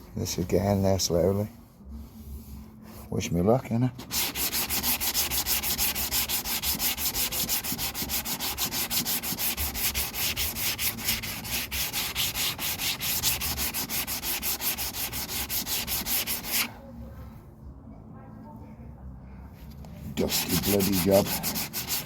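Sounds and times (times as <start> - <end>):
sandpaper rubbing on filler: 0.3 - 16.7, 20.2 - 22.0.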